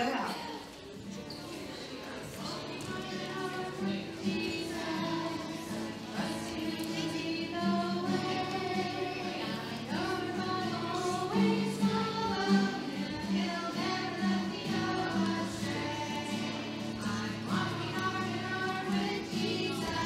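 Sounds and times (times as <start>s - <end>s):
group singing: 1.6s - 20.0s.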